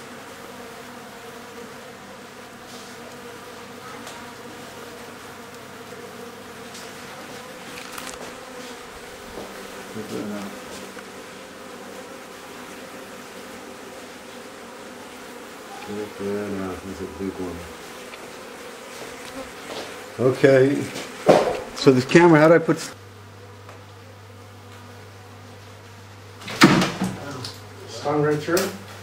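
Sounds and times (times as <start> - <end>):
bees buzzing: 0.0 - 29.0.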